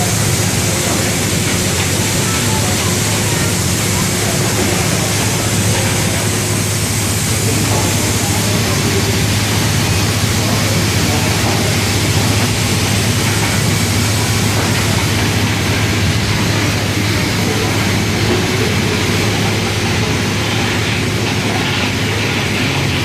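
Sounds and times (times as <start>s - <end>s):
loud machinery noise: 0.0s - 23.0s.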